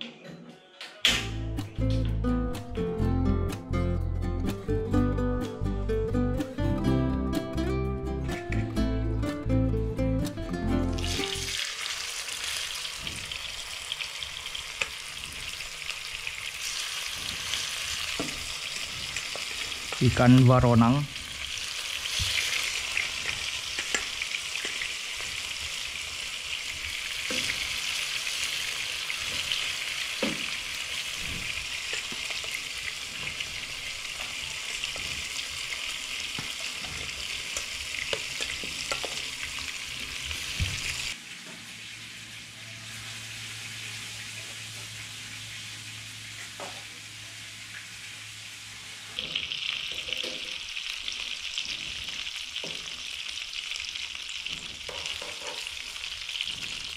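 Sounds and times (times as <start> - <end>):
fish frying in hot oil: 11.0 - 56.9.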